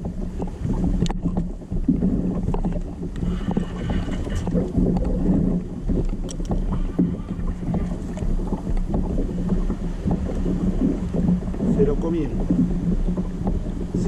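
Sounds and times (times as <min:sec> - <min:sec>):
low thumps: 0:00.0 - 0:14.0
steady low hum: 0:00.0 - 0:14.0
water noise: 0:00.0 - 0:14.0
wind buffeting microphone: 0:00.0 - 0:14.0.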